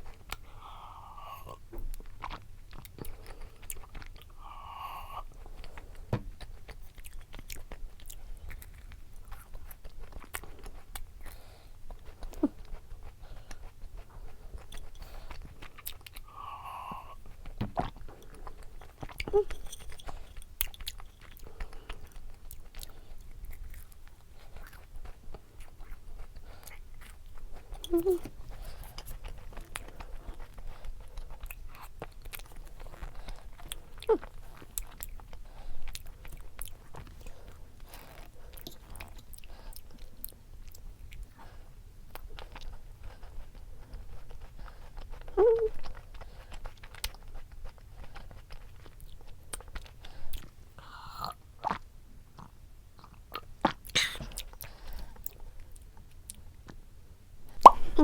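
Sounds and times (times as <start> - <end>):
chewing and crunching: 0.0 - 56.9.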